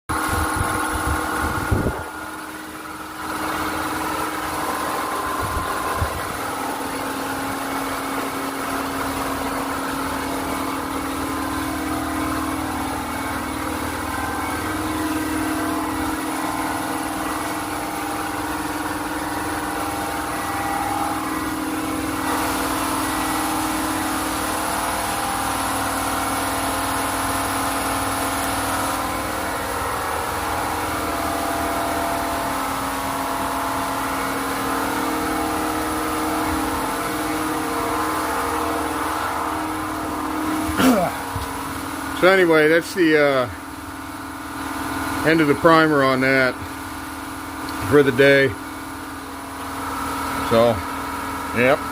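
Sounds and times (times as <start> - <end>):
motor humming and hissing: 0.1 - 51.9.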